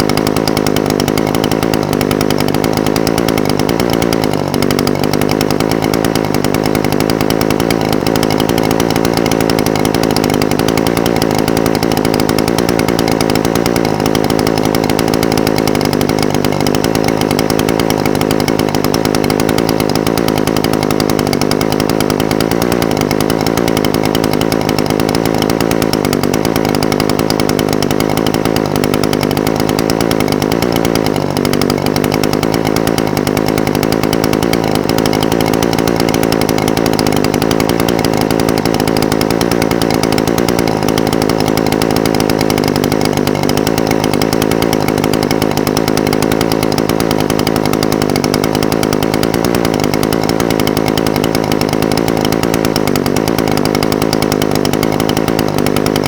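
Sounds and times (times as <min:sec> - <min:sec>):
brushcutter engine idling: 0:00.0 - 0:56.0.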